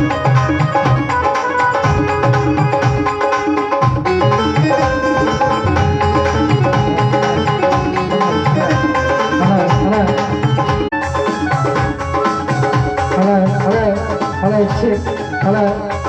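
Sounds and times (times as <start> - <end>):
keyboard melody: 0.0 - 16.0
tabla-style percussion: 0.0 - 16.0.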